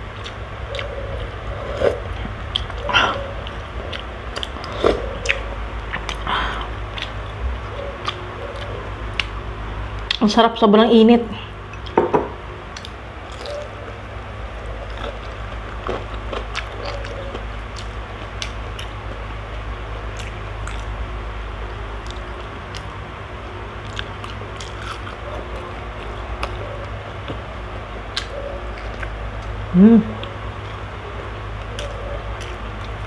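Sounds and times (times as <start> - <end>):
sharp crunches of chewing: 0.0 - 10.2, 12.7 - 23.1, 23.8 - 33.0
steady low hum: 0.0 - 33.0.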